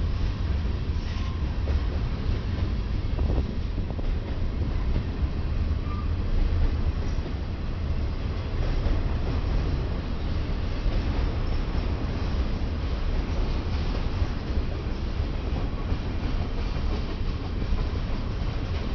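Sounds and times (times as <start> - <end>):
freight train rumbling past: 0.0 - 18.9.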